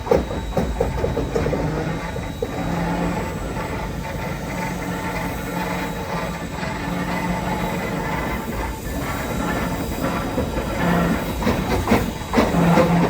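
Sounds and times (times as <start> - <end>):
steady mechanical noise: 0.0 - 13.0.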